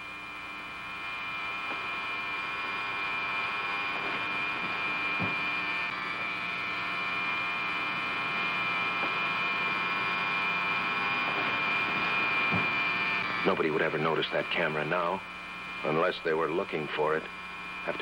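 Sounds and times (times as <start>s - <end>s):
film camera whirring hum: 0.0s - 18.0s.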